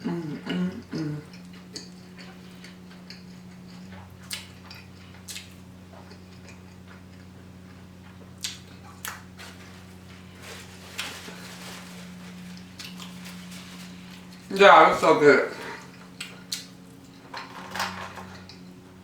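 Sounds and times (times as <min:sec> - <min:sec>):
chewing: 0:00.0 - 0:14.5, 0:15.8 - 0:17.3.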